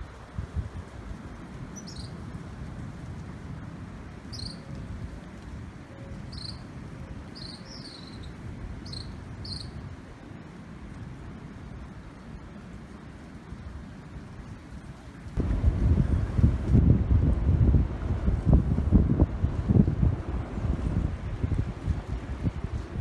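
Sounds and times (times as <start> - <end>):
low rumble of wind: 0.0 - 23.0.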